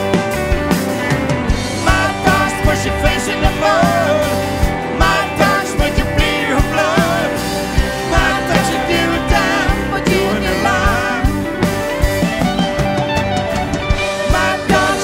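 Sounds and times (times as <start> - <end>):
drum kit beat: 0.0 - 15.0
live rock band playing: 0.0 - 15.0
wavering lead melody: 0.1 - 15.0.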